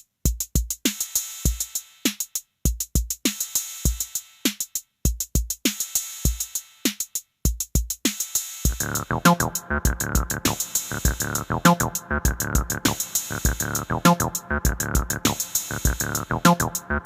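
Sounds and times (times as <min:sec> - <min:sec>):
drum machine beat: 0:00.0 - 0:17.0.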